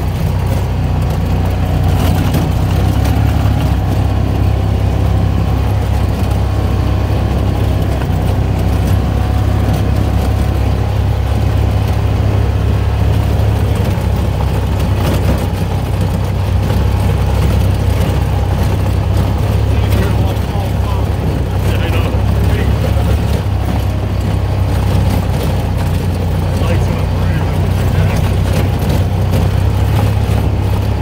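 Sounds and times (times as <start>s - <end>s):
off-road vehicle engine running: 0.0s - 31.0s.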